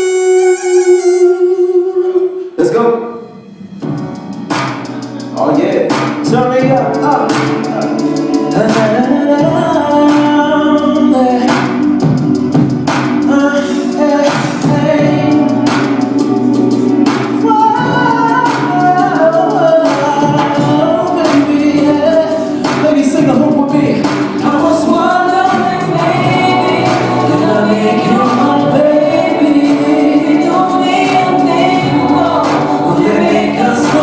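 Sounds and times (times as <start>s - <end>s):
person singing: 0.0s - 3.4s, 5.0s - 12.0s, 13.2s - 16.4s, 17.4s - 34.0s
backing music: 0.0s - 34.0s.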